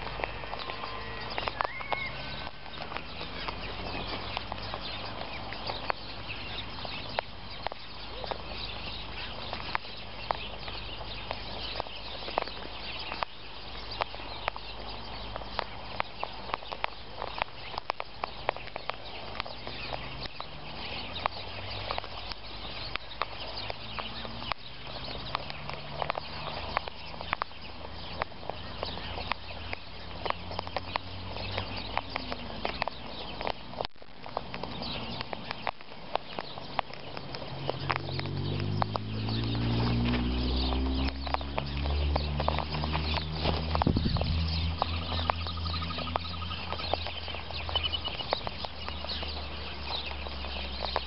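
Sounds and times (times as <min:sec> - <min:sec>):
beaks pecking and husking seed: 0:00.0 - 0:51.0.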